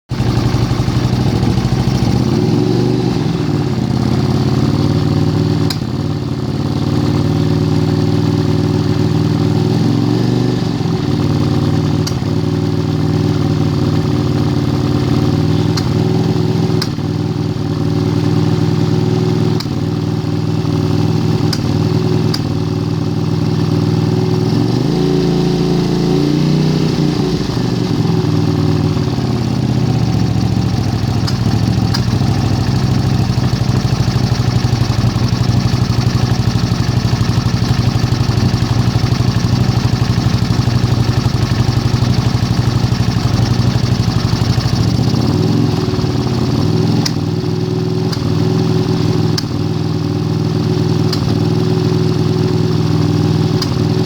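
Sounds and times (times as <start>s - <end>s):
motorcycle engine idling: 0.1s - 54.0s.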